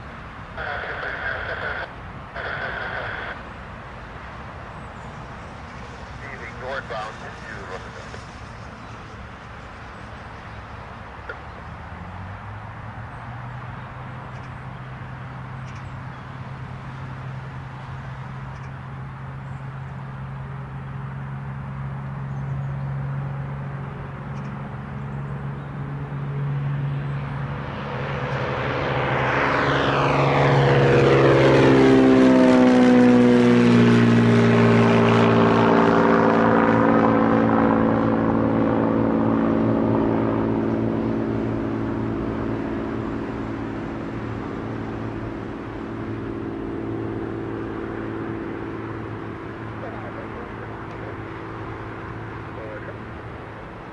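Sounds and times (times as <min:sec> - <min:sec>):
propeller aircraft passing: 0:00.0 - 0:53.9.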